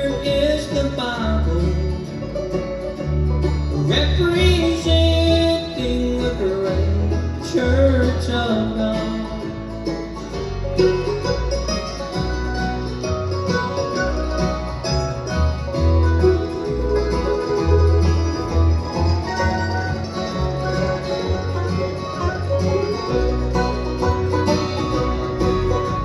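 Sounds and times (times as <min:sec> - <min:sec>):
banjo picking: 0:00.0 - 0:26.0
guitar picking: 0:00.0 - 0:26.0
mandolin picking: 0:00.0 - 0:26.0
steady bass line: 0:00.0 - 0:26.0.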